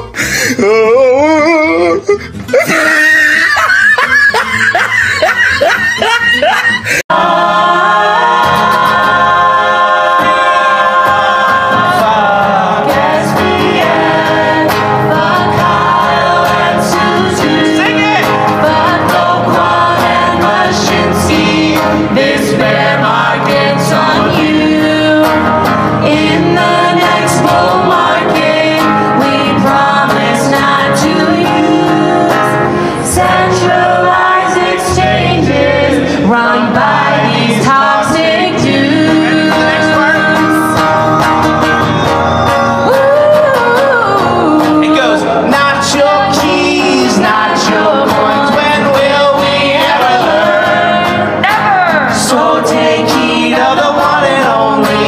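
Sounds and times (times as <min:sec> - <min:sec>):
man and woman singing: 0:00.1 - 0:55.0.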